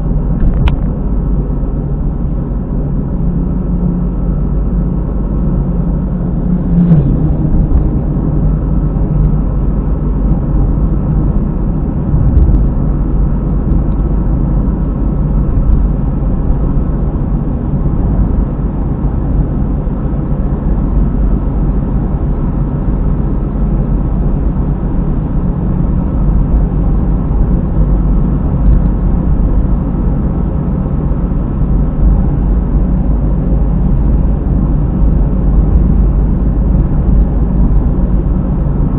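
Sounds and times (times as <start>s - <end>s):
low wheel drone: 0.0s - 38.9s
road and tyre noise: 0.0s - 38.9s.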